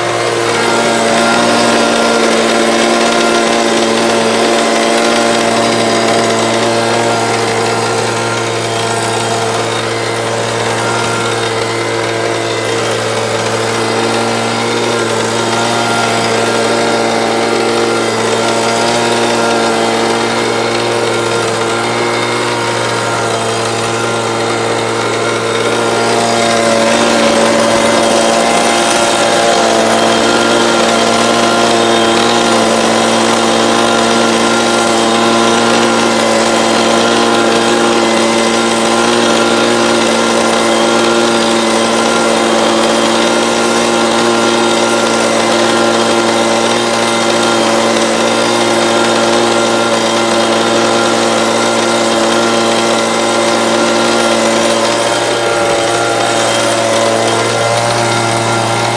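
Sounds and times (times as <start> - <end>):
blower-vacuum motor hum: 0.0 - 58.9.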